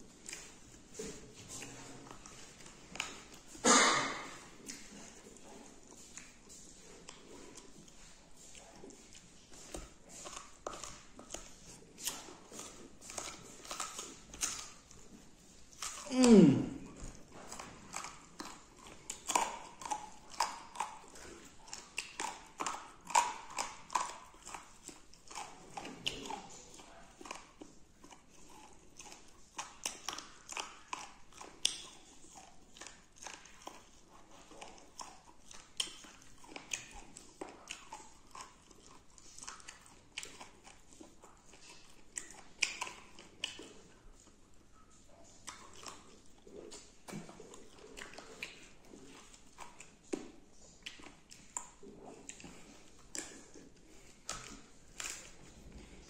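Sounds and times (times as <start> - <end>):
chewing and biting meat: 0.0 - 56.0
wet mouth clicks and smacks: 0.1 - 56.0.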